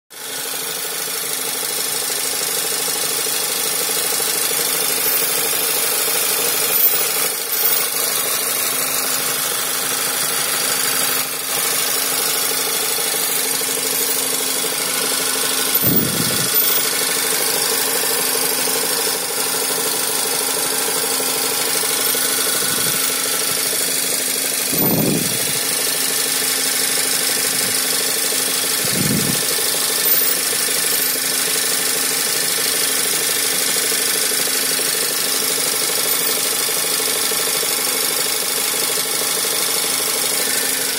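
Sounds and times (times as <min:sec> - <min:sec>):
car engine idling with whine: 0:00.1 - 0:40.9.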